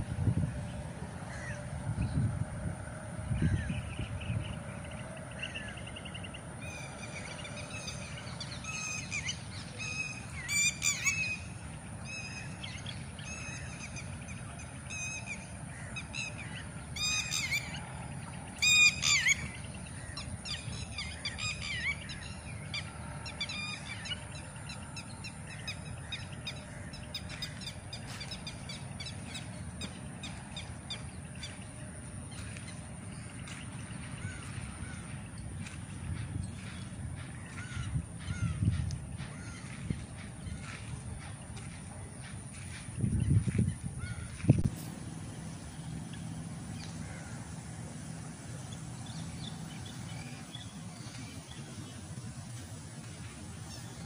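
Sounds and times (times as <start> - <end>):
birds calling: 0.0 - 54.0
steady low rumble: 0.0 - 54.0.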